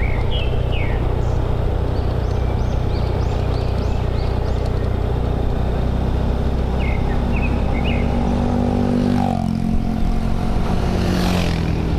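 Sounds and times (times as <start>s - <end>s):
motorcycle engine running: 0.0s - 11.9s
wind and road noise: 0.0s - 11.9s.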